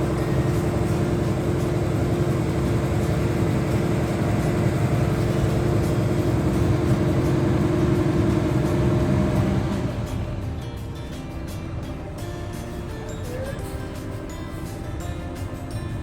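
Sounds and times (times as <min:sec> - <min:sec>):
large vehicle engine running: 0:00.0 - 0:16.0.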